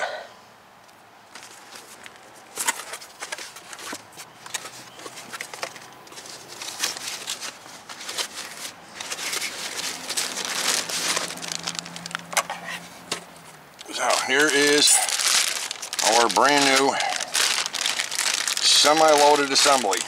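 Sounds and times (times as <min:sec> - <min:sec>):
packing wrap crinkling: 0:01.3 - 0:20.0.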